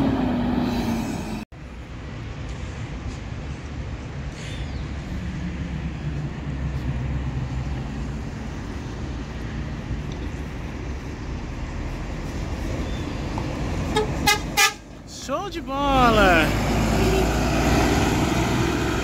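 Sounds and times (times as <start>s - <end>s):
diesel coach engine rumbling: 0.0s - 19.0s.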